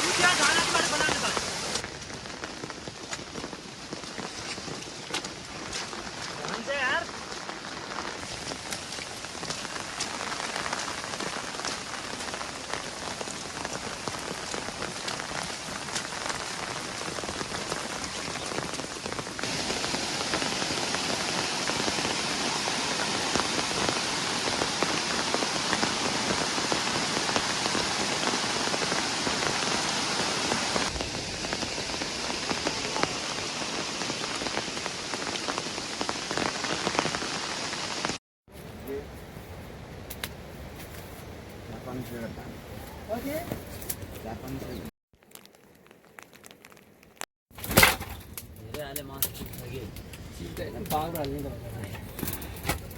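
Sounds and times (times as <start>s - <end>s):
steady rainfall: 0.0s - 40.6s, 48.4s - 52.9s.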